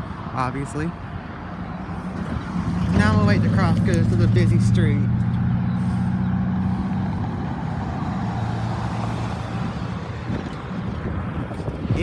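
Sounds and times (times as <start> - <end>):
vehicle engine hum with road noise: 0.0 - 12.0.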